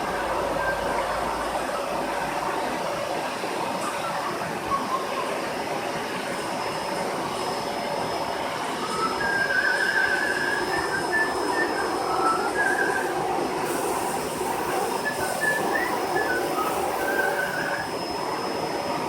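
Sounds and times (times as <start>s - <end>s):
vacuum cleaner running: 0.0s - 19.0s
wavering high tone: 3.7s - 19.0s.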